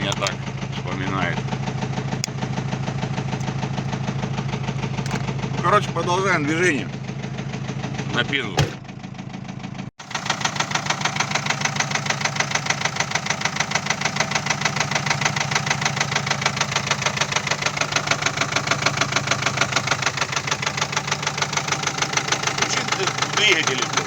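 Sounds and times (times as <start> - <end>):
diesel engine knocking: 0.0 - 24.0.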